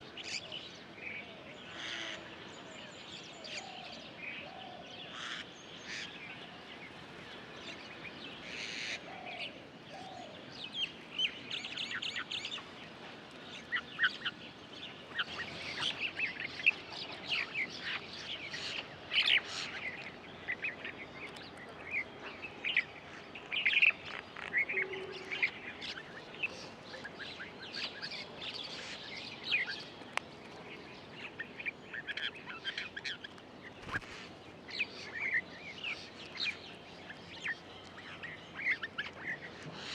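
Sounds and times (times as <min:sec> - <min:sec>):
birds chirping and calling: 0:00.1 - 0:39.9.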